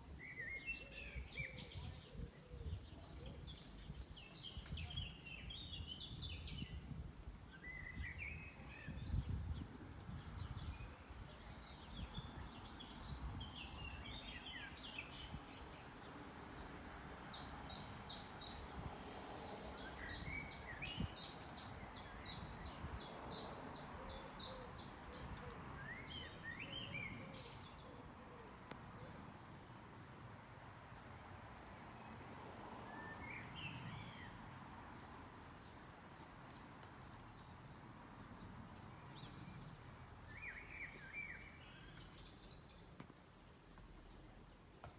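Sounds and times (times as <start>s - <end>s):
songbird chirping: 0.0s - 44.9s
wind rustling in a tree: 0.0s - 44.9s.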